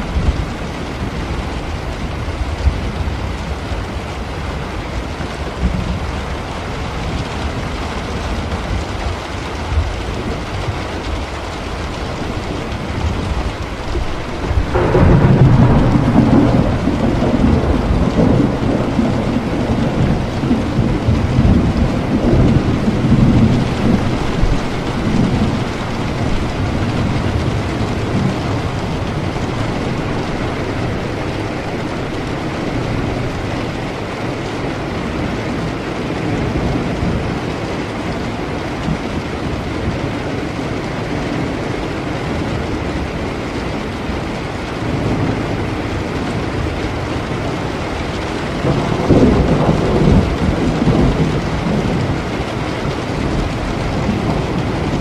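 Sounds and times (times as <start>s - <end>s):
steady rain: 0.0s - 55.0s
thunder clap and rumble: 0.0s - 55.0s.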